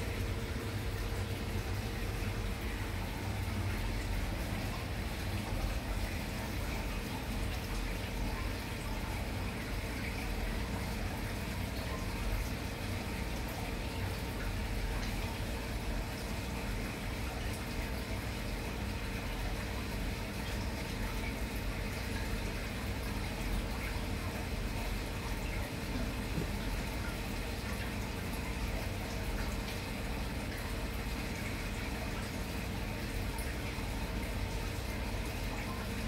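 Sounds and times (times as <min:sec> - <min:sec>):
aquarium water bubbling: 0:00.0 - 0:36.0
faint steady hum: 0:00.0 - 0:36.0.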